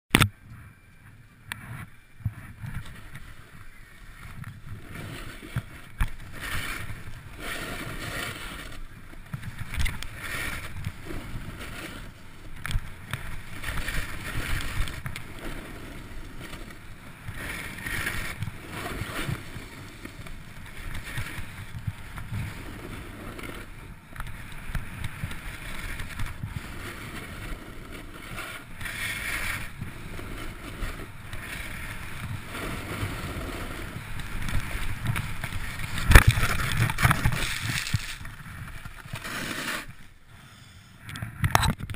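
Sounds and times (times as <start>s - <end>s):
wind noise: 0.1s - 40.1s.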